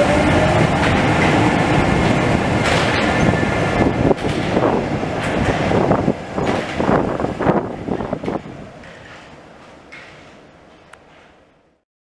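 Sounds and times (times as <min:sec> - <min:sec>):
train clattering in tunnel: 0:00.0 - 0:11.8.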